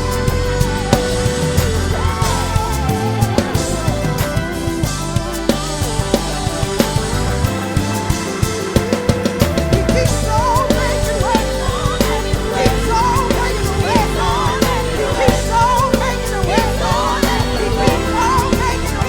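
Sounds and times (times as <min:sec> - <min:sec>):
bass: 0:00.0 - 0:19.0
drum kit: 0:00.0 - 0:19.0
melodic lead line: 0:00.0 - 0:19.0
sustained chords: 0:00.0 - 0:19.0.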